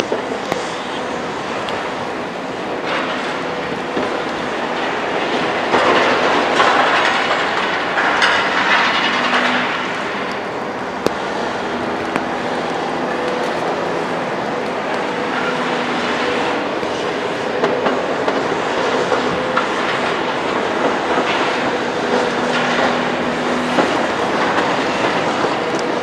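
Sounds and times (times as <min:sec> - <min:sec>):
excavator heavy machine noise: 0:00.0 - 0:26.0.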